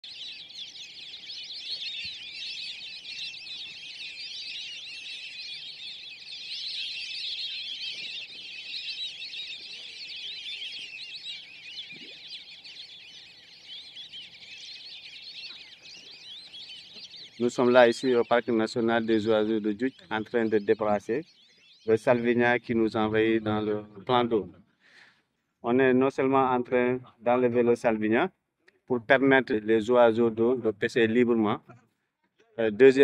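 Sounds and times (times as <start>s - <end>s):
chorus of birds chirping: 0.0s - 33.0s.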